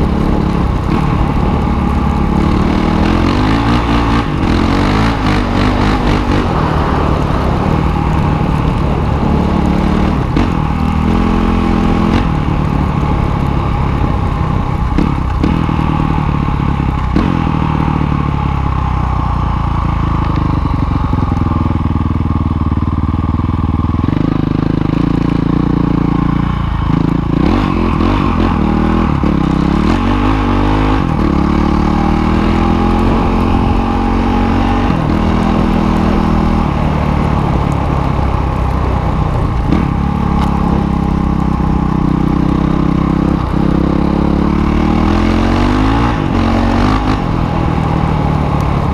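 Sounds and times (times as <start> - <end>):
dirt bike engine revving: 0.0 - 18.6, 24.1 - 48.9.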